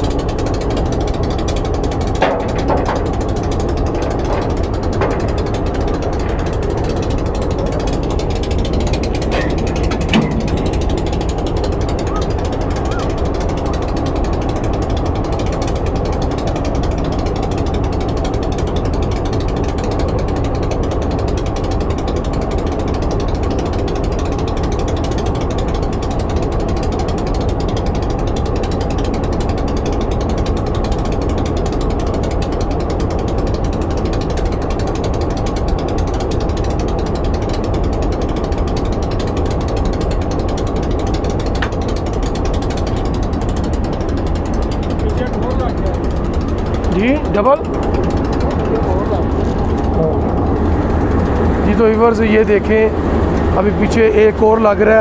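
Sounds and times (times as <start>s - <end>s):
diesel locomotive engine idling: 0.0s - 55.0s.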